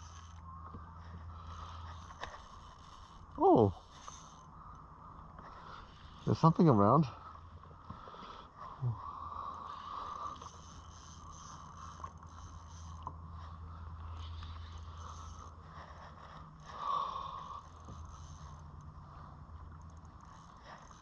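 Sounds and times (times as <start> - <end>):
fishing reel winding: 0.0 - 21.0.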